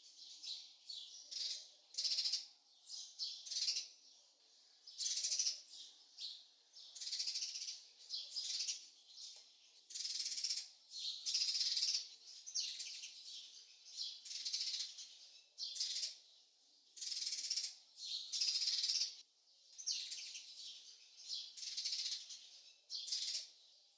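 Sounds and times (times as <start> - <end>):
small songbirds chirping: 0.0 - 23.9.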